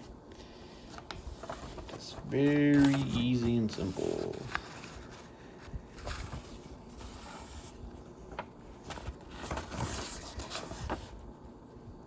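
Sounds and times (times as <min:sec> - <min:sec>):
packaging rustling: 0:00.9 - 0:11.2.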